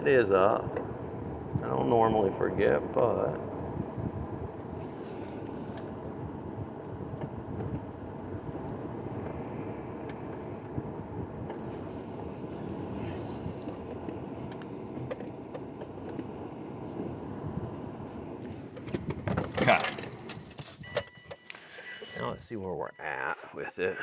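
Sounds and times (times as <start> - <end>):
vehicle engine running at low speed: 0.0 - 23.1.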